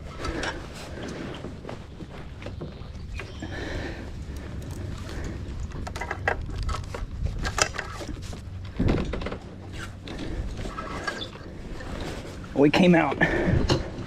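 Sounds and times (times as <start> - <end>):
clicks and knocks of gear: 0.1 - 12.5.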